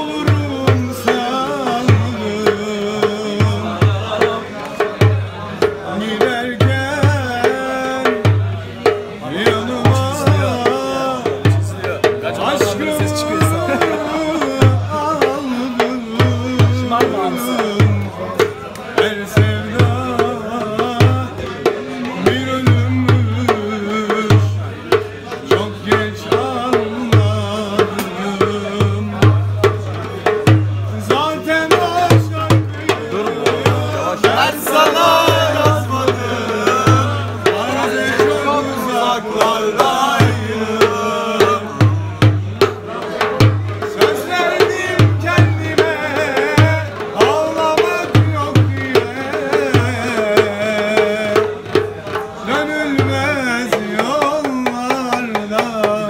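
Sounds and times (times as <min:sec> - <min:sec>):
hand drum beating: 0:00.0 - 0:56.0
man singing: 0:00.0 - 0:56.0.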